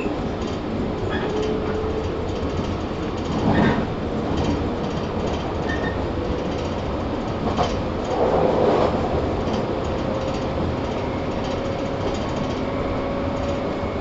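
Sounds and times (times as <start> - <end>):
clickety-clack over rail joints: 0.0 - 14.0
train wheels rumbling: 0.0 - 14.0.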